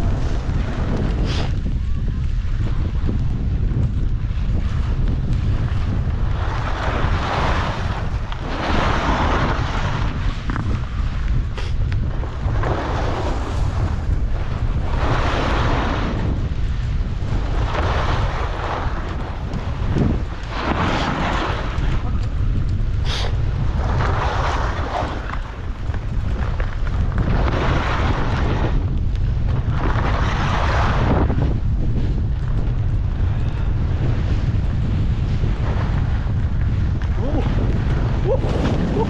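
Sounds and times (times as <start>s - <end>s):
skis scraping over snow: 0.0s - 39.0s
wind rumble on microphone: 0.0s - 39.0s.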